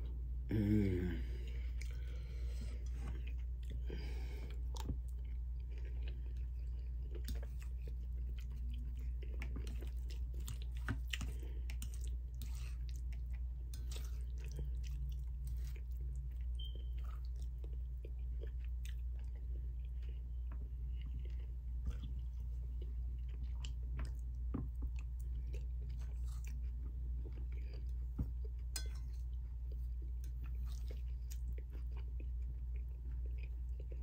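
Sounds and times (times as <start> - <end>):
person chewing: 1.2 - 34.0.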